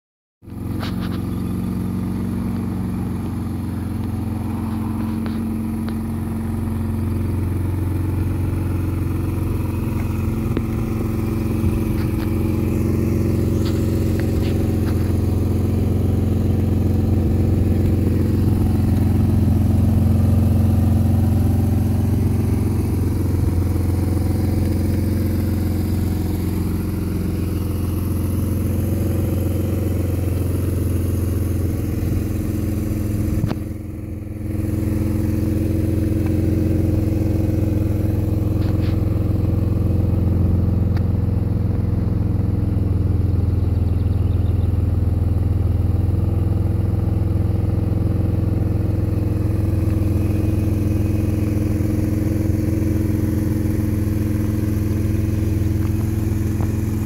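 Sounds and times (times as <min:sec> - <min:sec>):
engine idling: 0:00.4 - 0:57.0.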